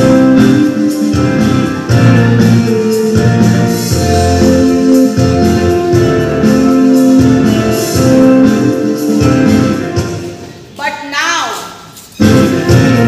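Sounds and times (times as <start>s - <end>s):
instrumental background music: 0.0s - 10.8s, 12.0s - 13.0s.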